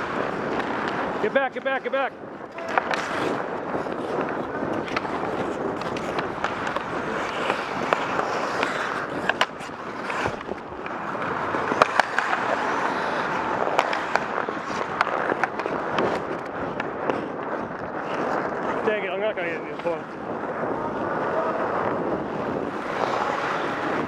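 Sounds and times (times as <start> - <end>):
hockey sticks and puck clicking: 0.0 - 20.7, 21.8 - 24.0
skate blades scraping ice: 0.0 - 24.0.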